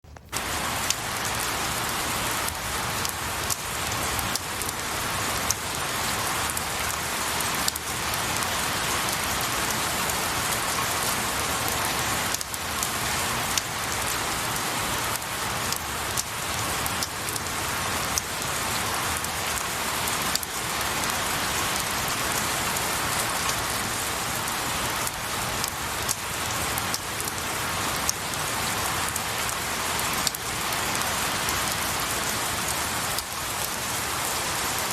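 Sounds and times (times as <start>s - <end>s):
raindrops ticking: 0.0s - 34.9s
rain falling on pine needles: 0.1s - 34.9s.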